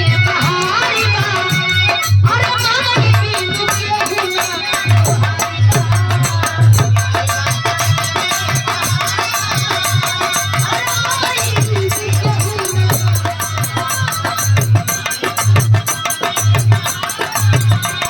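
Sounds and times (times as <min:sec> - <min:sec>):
hand drum beat: 0:02.3 - 0:18.0.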